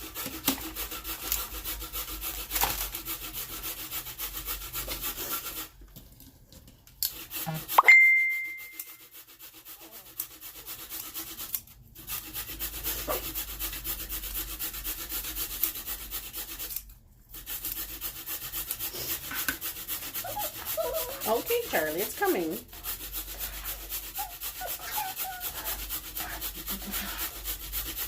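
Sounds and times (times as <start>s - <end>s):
cheese scraping on a grater: 0.0s - 5.8s, 7.0s - 7.7s, 8.7s - 28.0s.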